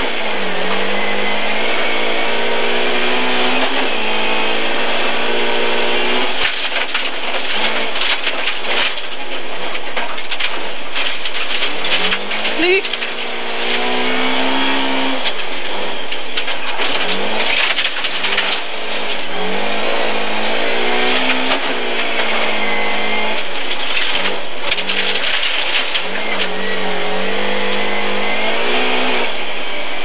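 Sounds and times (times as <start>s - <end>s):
tyres on gravel: 0.0s - 29.3s
rally car engine revving: 0.0s - 30.0s.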